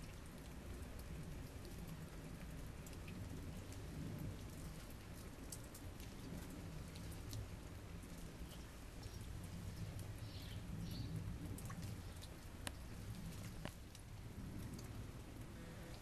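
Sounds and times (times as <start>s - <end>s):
low storm rumble: 0.0s - 16.0s
precipitation ticks and patters: 0.0s - 16.0s.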